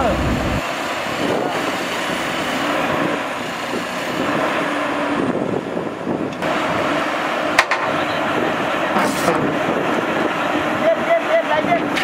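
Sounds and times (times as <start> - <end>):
excavator engine droning: 0.0 - 12.0.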